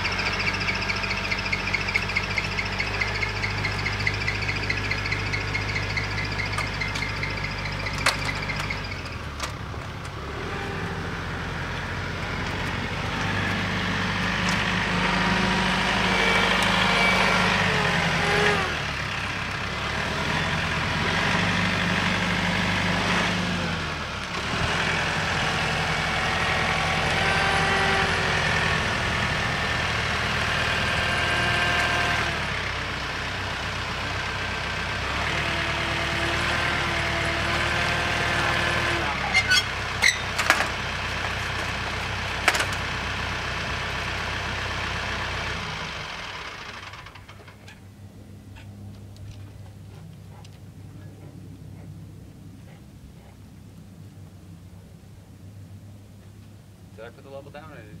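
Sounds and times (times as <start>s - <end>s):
vehicle engine revving: 0.0s - 52.4s.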